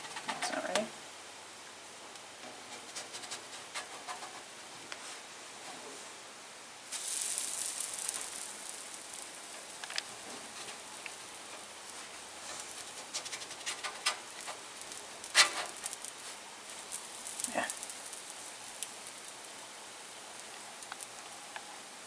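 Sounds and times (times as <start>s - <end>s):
pancakes sizzling on a griddle: 1.3s - 22.0s.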